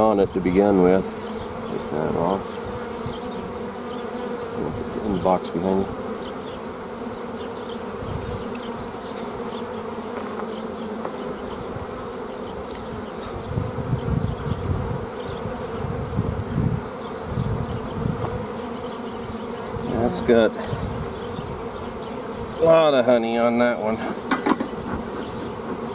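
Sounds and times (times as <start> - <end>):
honeybees buzzing: 0.0 - 25.9.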